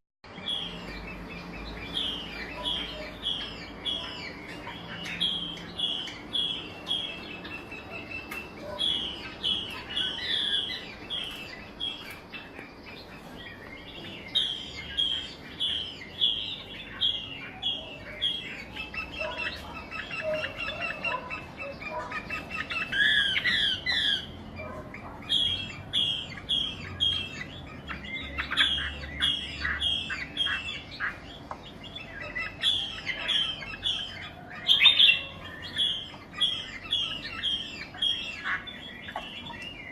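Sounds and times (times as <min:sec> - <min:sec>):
bird chirping: 0:00.2 - 0:39.9.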